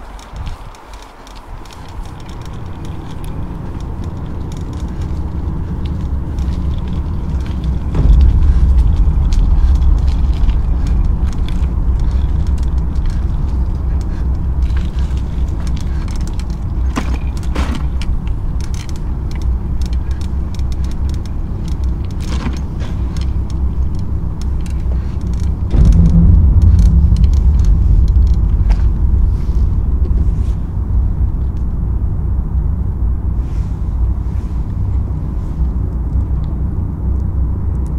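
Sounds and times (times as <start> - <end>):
bicycle tyres rumbling on asphalt: 0.0 - 37.9
bike clicks and rattles: 0.0 - 37.9
wind on microphone: 0.0 - 37.9.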